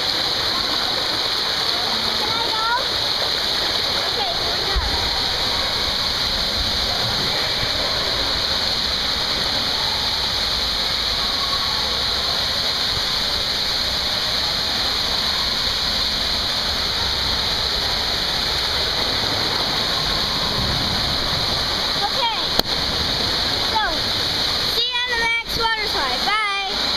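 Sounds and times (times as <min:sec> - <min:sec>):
water rushing through slide tube: 0:00.0 - 0:26.9.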